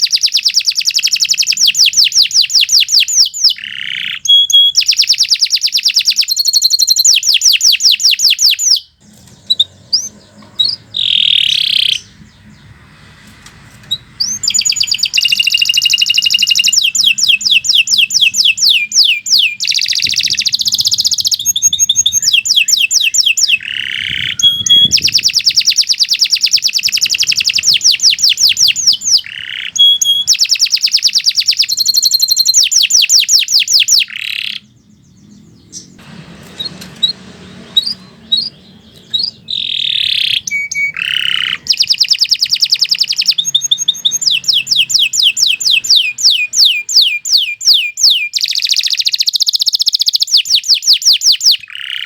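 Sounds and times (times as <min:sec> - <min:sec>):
canary singing trills: 0:00.0 - 0:52.0.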